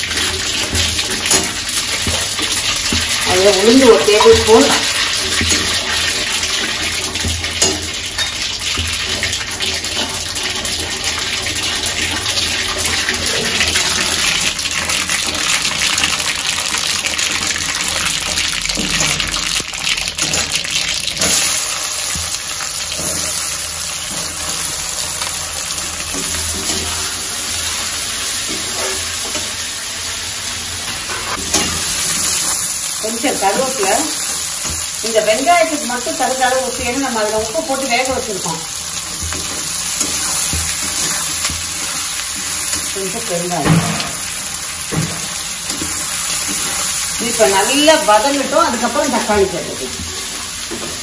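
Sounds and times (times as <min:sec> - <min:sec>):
oil sizzling in a pan: 0:00.0 - 0:51.0.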